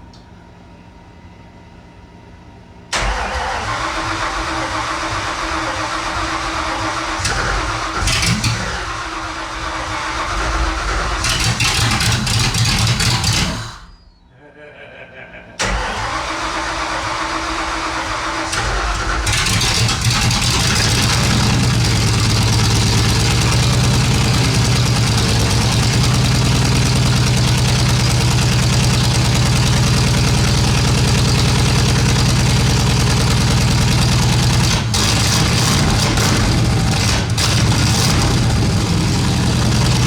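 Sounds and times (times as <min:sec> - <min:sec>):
engine idling: 0:02.9 - 0:14.3, 0:15.6 - 0:40.0.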